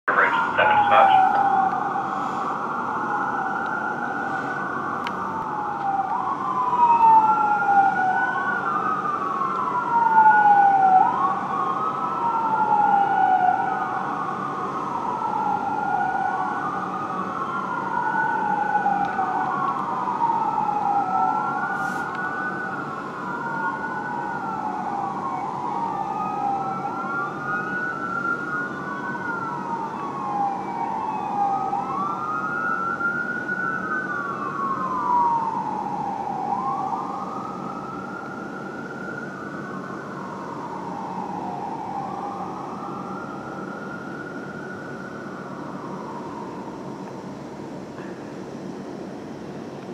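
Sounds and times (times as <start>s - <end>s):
fire engine siren wailing: 0.0s - 49.7s.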